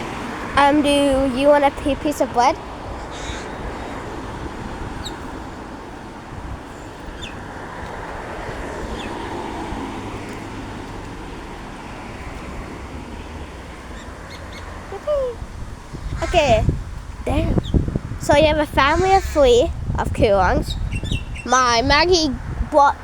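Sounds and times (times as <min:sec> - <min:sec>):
birds chirping: 0:00.0 - 0:19.7, 0:20.4 - 0:23.0
road traffic rumble: 0:00.0 - 0:23.0.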